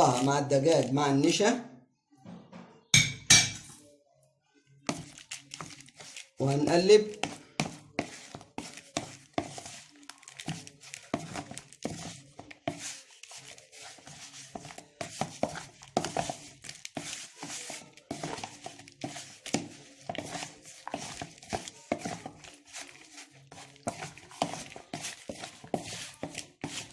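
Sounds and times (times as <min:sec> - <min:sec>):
chicken being tossed in flour: 0:04.8 - 0:26.9.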